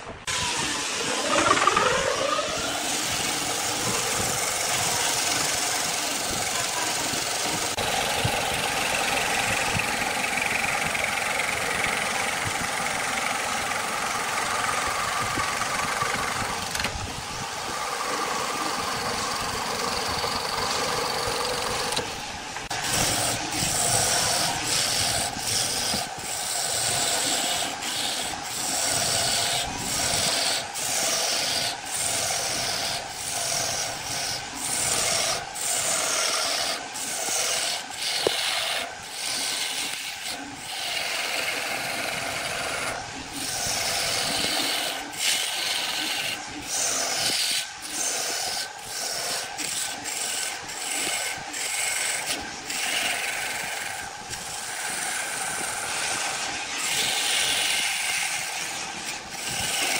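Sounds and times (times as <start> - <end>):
faint motor hum: 0.1 - 59.9
lathe tool scraping wood: 0.1 - 59.9.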